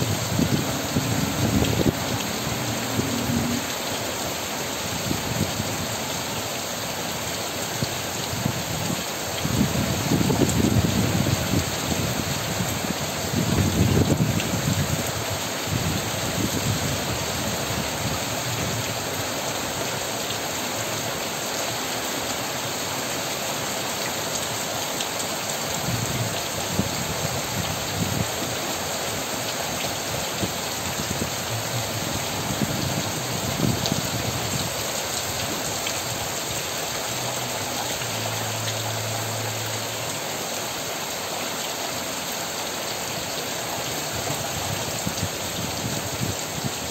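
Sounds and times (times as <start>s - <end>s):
heavy rain falling on trees: 0.0s - 46.9s.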